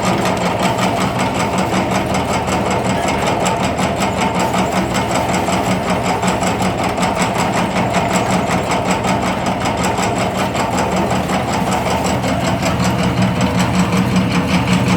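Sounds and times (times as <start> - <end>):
cutter clattering: 0.0 - 14.9.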